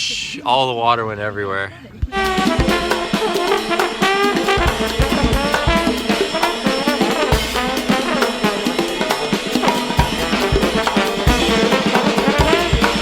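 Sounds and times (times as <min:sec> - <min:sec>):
brass horns: 0:02.1 - 0:13.0
drum kit beat: 0:02.1 - 0:13.0.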